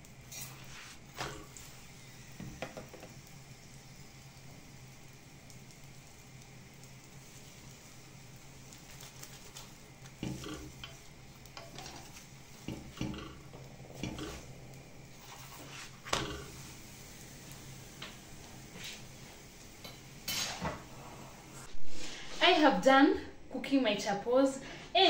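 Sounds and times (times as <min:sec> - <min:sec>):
oil sizzling on hot pan: 0:00.0 - 0:22.4.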